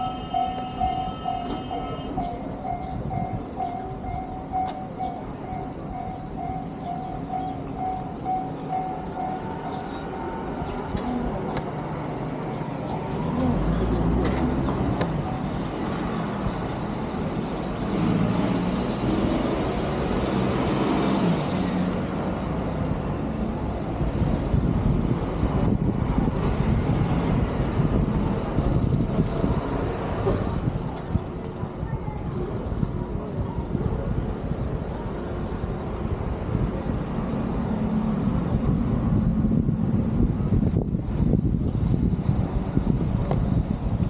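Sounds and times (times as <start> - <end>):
heavy engine: 0.0 - 44.0
vehicles passing: 0.0 - 44.0.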